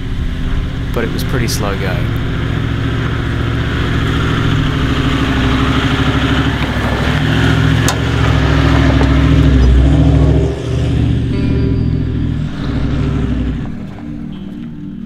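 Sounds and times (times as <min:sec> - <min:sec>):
vehicle engine on dirt track: 0:00.0 - 0:15.0.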